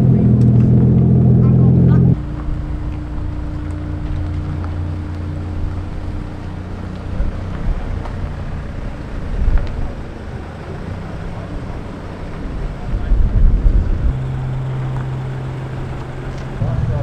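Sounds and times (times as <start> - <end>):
sports car engines driving off: 0.0 - 17.0
wind buffeting microphone: 0.0 - 17.0.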